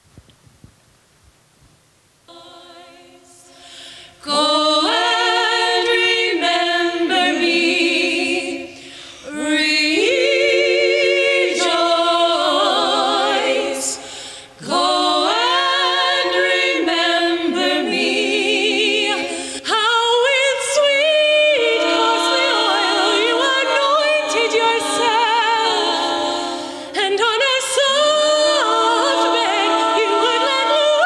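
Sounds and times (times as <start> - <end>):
women singing a cappella: 2.3 - 31.0.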